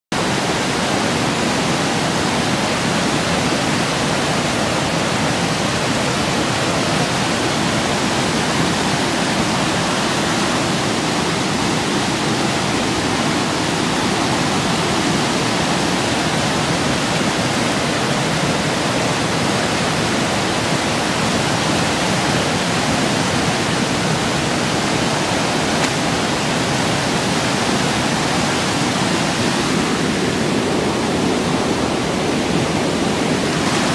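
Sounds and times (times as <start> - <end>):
floodwater rushing through rapids: 0.1 - 33.9.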